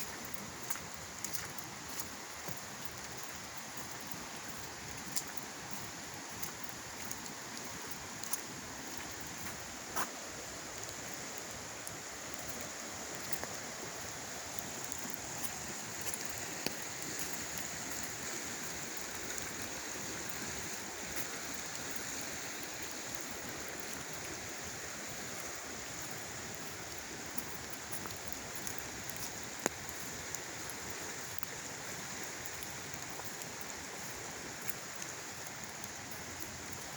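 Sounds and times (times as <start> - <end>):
creek water flowing: 0.0 - 36.9.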